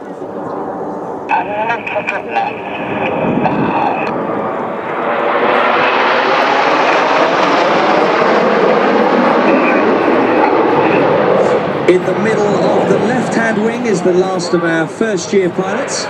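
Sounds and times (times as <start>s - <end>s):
jets flying past: 0.0s - 16.0s.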